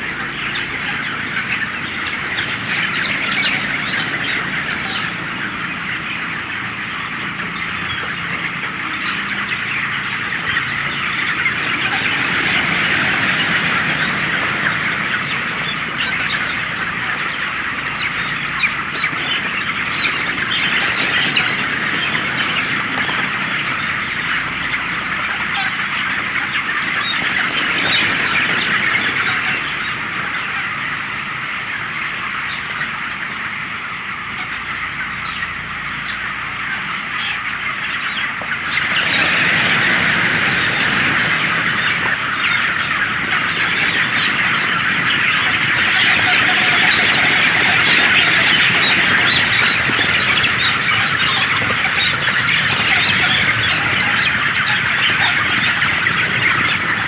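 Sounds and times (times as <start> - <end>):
chickens peeping and clucking: 0.0 - 57.0.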